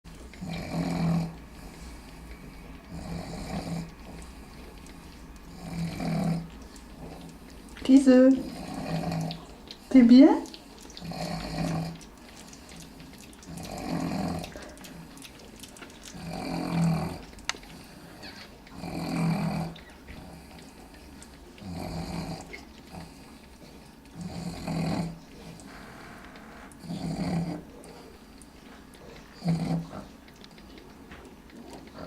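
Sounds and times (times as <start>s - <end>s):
pet snoring: 0.3s - 15.1s, 16.1s - 28.3s, 29.0s - 30.2s.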